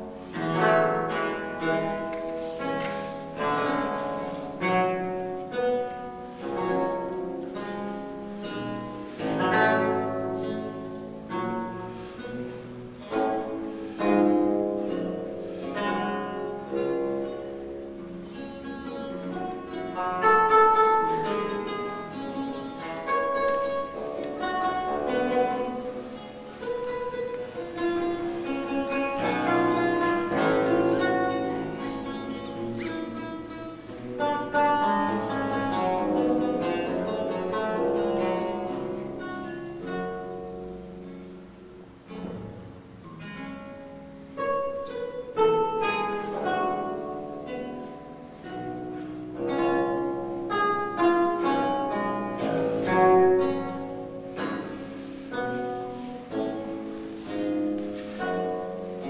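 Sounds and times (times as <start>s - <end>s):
solo theorbo playing: 0.0s - 59.0s.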